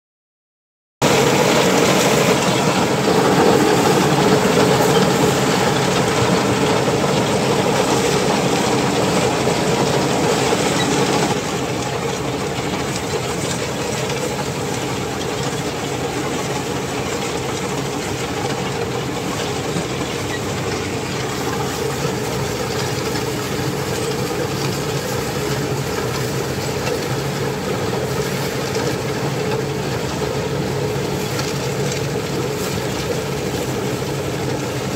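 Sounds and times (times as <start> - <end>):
tractor diesel engine running: 1.0 - 34.9.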